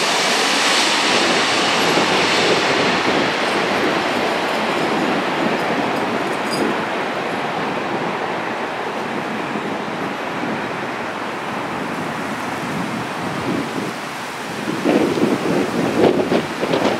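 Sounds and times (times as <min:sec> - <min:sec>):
jet engine rushing: 0:00.0 - 0:16.9.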